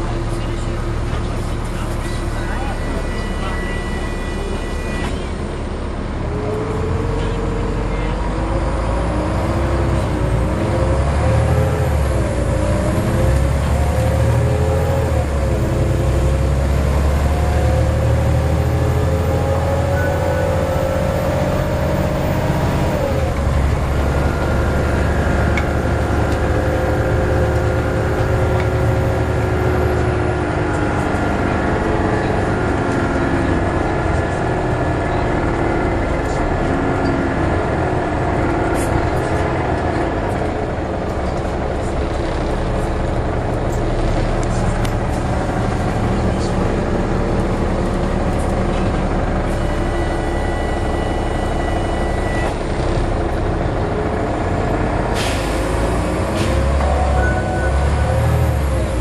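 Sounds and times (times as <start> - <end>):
bus engine whine: 0.0 - 59.0
low engine rumble: 0.0 - 59.0.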